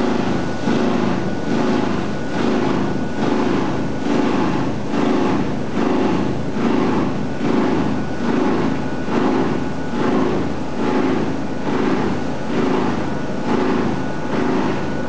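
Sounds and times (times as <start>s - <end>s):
industrial machinery drone: 0.0s - 15.0s
thin steady whine: 0.0s - 15.0s.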